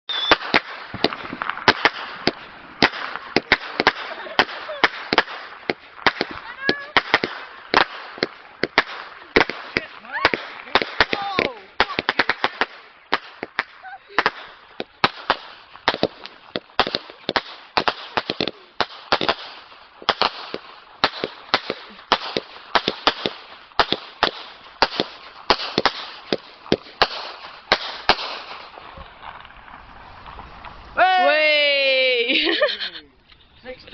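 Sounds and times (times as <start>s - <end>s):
fireworks bangs and cracks: 0.1s - 32.2s.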